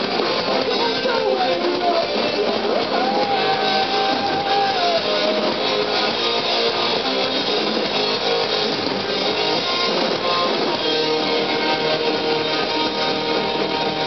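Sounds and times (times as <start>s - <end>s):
bass guitar: 0.0s - 14.0s
strummed electric guitars: 0.0s - 14.0s.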